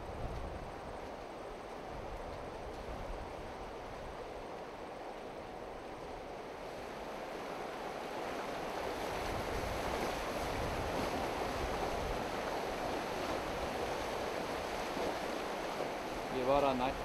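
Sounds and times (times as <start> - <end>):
river rushing: 0.1 - 17.0.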